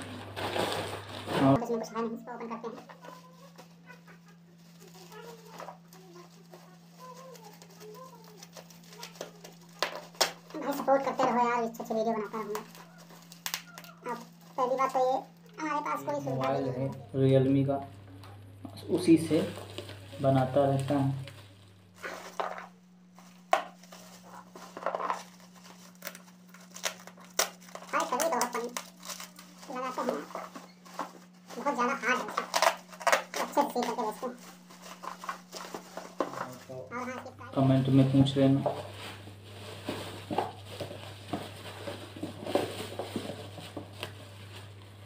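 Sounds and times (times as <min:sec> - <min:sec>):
paper rustling: 0:00.0 - 0:16.6, 0:19.0 - 0:45.0
bubble wrap crinkling: 0:00.0 - 0:45.0
steady low hum: 0:00.0 - 0:45.0.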